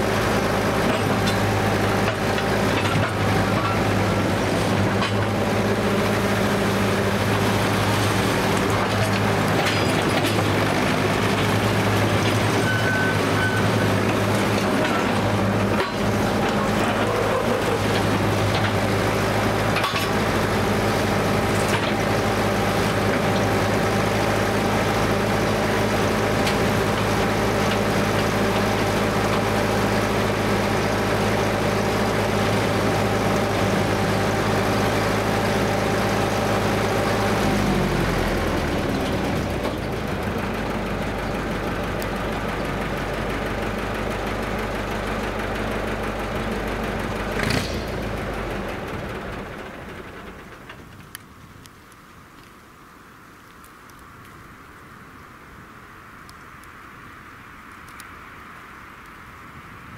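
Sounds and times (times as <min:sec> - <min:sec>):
cable shovel engine running: 0:00.0 - 0:51.6.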